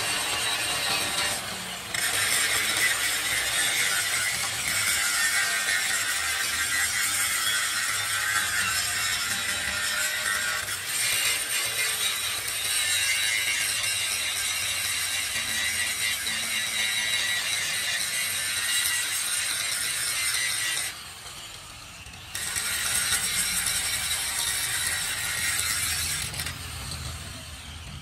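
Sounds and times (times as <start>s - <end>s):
angle grinder grinding metal: 0.0s - 28.0s.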